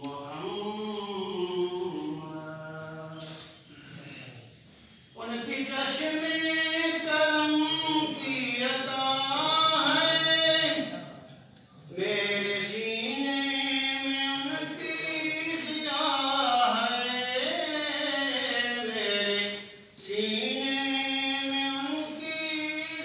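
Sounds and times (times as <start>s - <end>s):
man singing unaccompanied: 0.0s - 3.6s, 5.1s - 11.2s, 11.8s - 23.0s.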